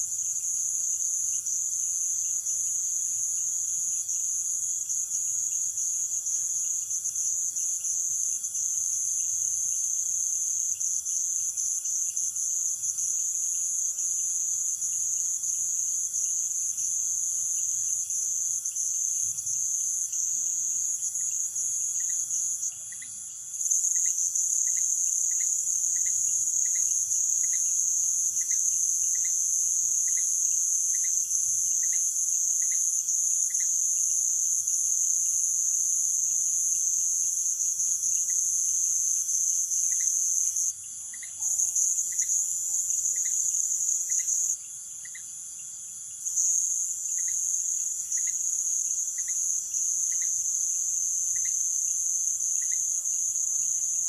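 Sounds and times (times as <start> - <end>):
insects buzzing trill: 0.0 - 54.0
low insect chirp: 0.0 - 54.0.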